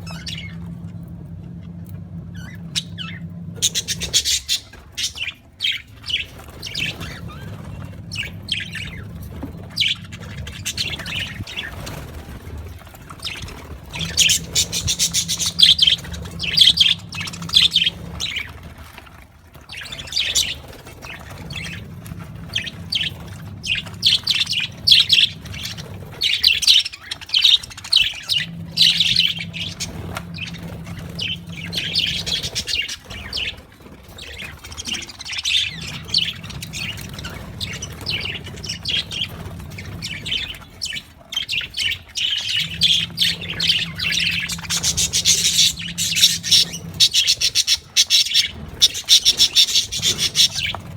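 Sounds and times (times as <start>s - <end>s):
budgerigars chirping and chattering: 0.0s - 0.9s, 2.3s - 18.8s, 19.7s - 50.9s.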